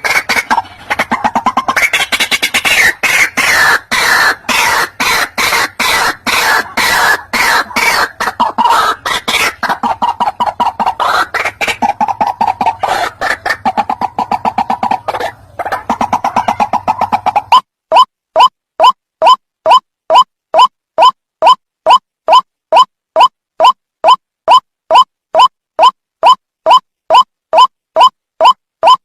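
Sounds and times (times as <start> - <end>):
waterhen calling harsh notes: 0.0 - 29.0.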